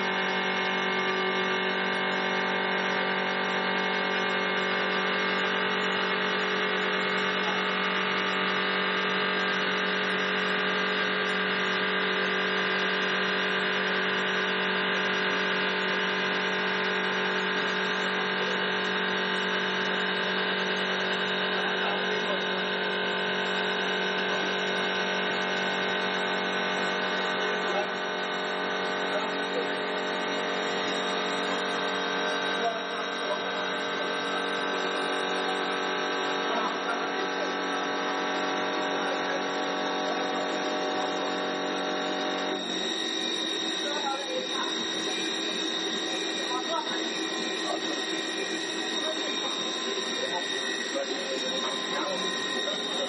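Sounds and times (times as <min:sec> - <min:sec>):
wood lathe motors humming: 0:00.0 - 0:53.0.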